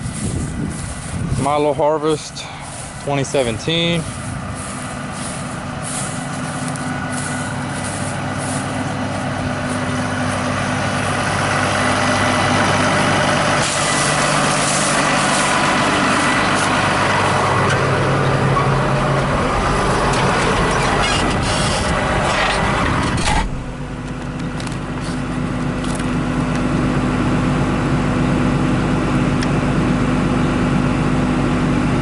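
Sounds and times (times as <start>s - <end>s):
diesel harvester engine running: 0.0s - 32.0s.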